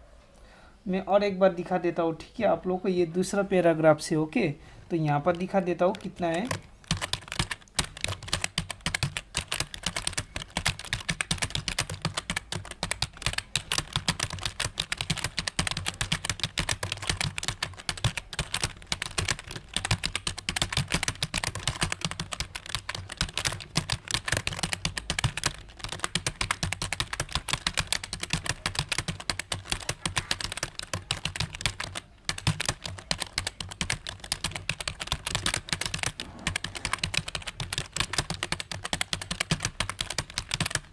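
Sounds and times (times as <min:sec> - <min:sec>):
fast typing on computer keyboard: 0:05.1 - 0:40.9.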